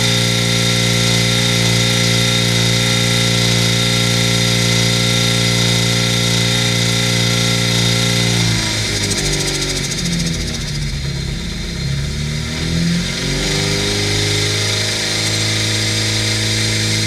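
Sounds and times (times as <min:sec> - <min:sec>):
engine running on a dyno: 0:00.0 - 0:17.0.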